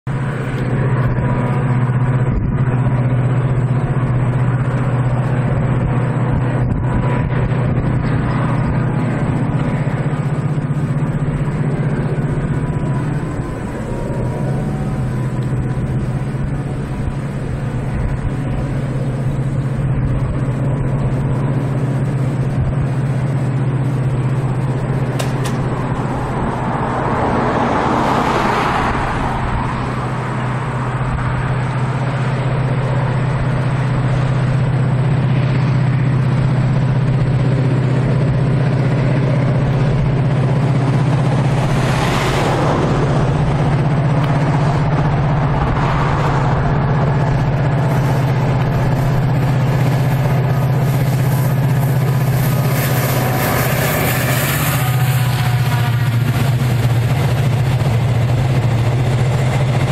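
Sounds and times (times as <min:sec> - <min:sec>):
diesel locomotive rumbling: 0:00.0 - 0:59.9
train wheels rumbling: 0:00.1 - 0:59.9.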